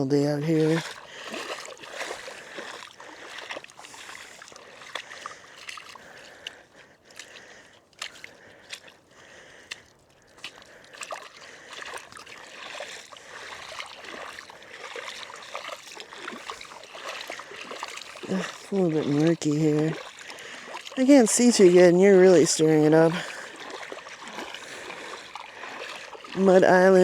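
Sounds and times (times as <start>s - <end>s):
seawater sloshing and splashing: 0.0s - 27.0s.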